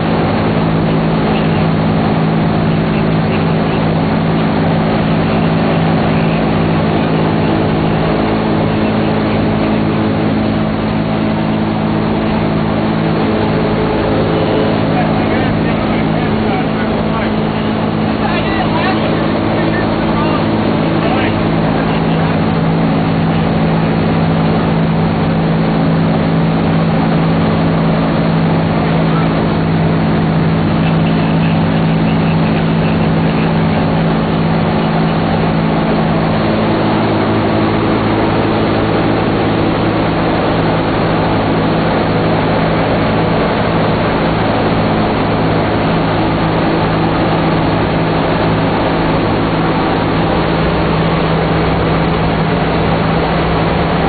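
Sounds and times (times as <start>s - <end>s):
aircraft engines droning: 0.0s - 54.0s
rush of air and propellers: 0.0s - 54.0s.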